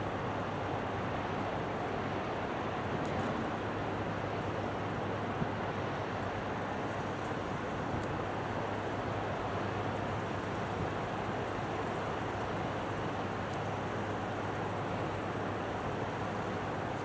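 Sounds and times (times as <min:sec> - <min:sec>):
ship engine hum: 0:00.0 - 0:17.0
wind: 0:00.0 - 0:17.0.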